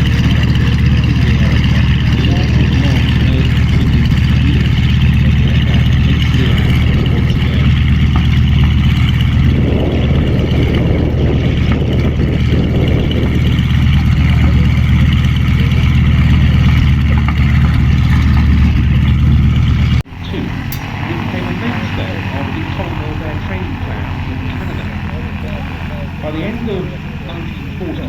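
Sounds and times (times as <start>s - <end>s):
piston aircraft engine running: 0.0s - 28.0s.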